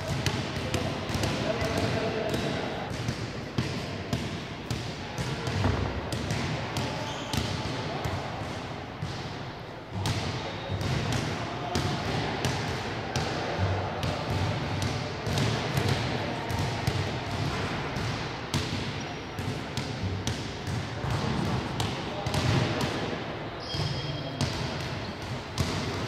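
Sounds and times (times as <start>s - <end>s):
basketballs bouncing on hard floor: 0.0s - 9.3s, 10.0s - 23.0s, 23.6s - 26.0s.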